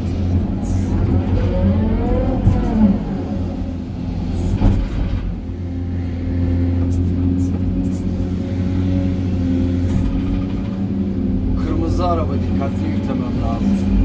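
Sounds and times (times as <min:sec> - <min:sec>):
excavator diesel engine humming: 0:00.0 - 0:14.0.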